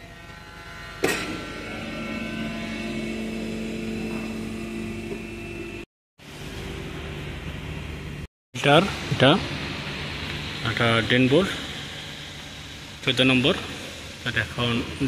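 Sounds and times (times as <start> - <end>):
hydraulic pump humming: 0.0 - 15.0.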